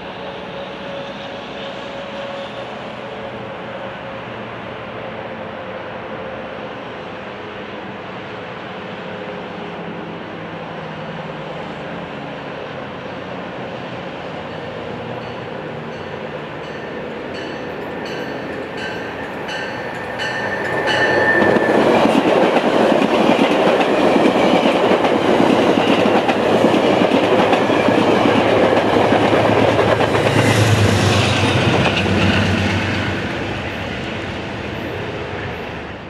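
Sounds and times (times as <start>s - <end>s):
steel wheels rumbling on rail: 0.0s - 36.0s.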